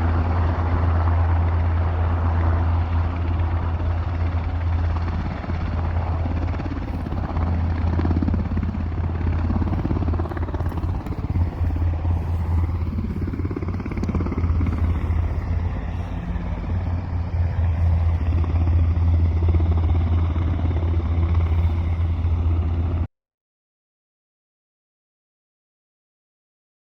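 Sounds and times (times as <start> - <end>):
helicopter droning: 0.0 - 23.1.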